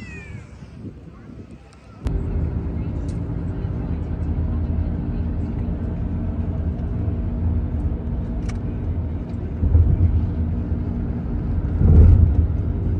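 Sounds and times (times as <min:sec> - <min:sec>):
car engine and road noise: 0:00.0 - 0:12.9.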